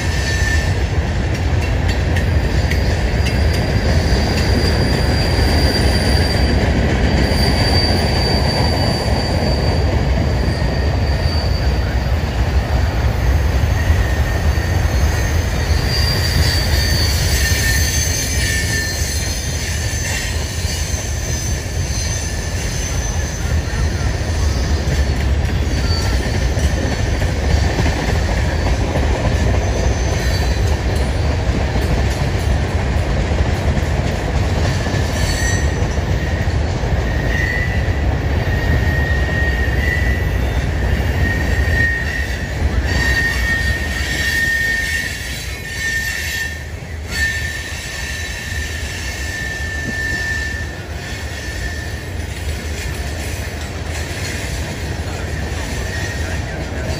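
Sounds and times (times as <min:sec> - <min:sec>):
high wheel squeals: 0:00.0 - 0:01.0, 0:02.7 - 0:12.4, 0:13.0 - 0:31.3, 0:34.7 - 0:56.9
wheels rumbling on rail: 0:00.0 - 0:56.9.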